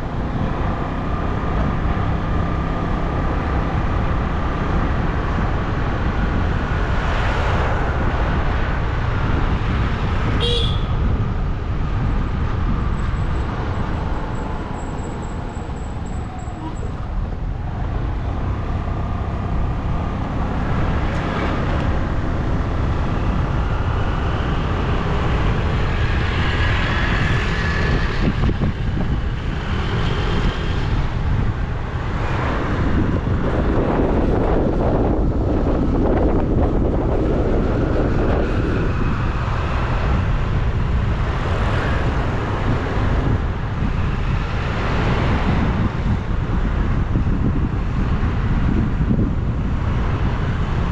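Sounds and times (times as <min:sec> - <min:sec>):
road and vehicle noise: 0:00.0 - 0:50.9
wind buffeting microphone: 0:00.0 - 0:50.9.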